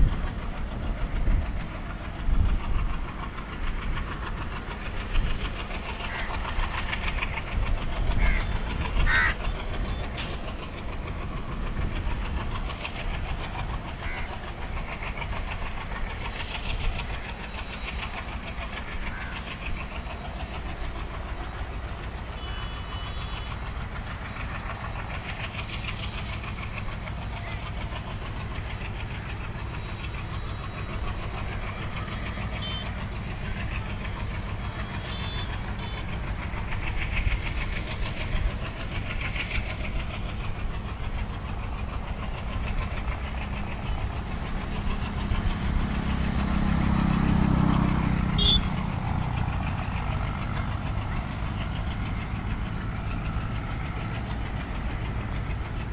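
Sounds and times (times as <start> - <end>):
diesel locomotive engine running: 0.0 - 55.9.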